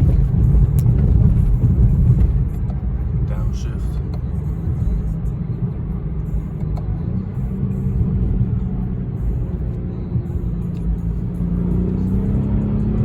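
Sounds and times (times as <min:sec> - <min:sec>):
car engine drone: 0:00.0 - 0:13.0
road rumble: 0:00.0 - 0:13.0.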